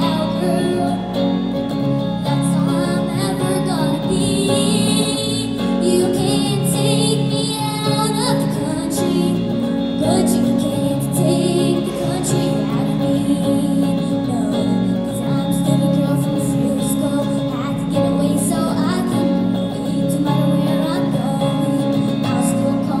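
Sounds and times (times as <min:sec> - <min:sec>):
electric guitar strumming: 0:00.0 - 0:23.0
girl singing: 0:00.0 - 0:23.0.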